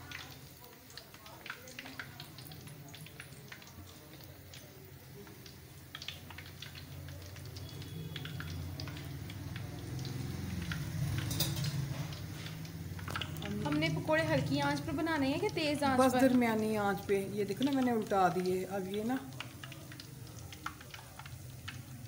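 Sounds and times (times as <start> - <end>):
oil bubbling and crackling: 0.0 - 22.0.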